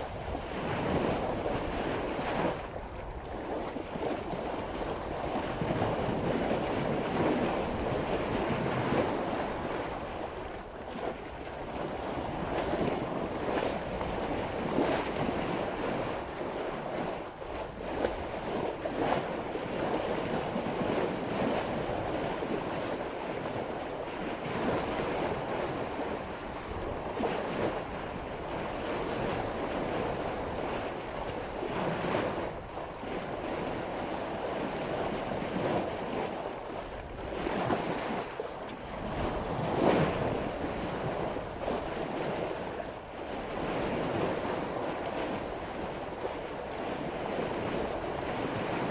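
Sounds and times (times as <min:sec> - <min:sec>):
water rushing along boat bow: 0:00.0 - 0:48.9
wind buffeting microphone: 0:00.0 - 0:48.9.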